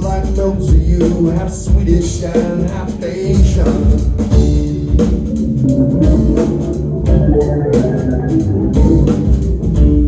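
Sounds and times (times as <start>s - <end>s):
live rock band playing: 0.0s - 10.0s
steady drum beat: 0.0s - 10.0s.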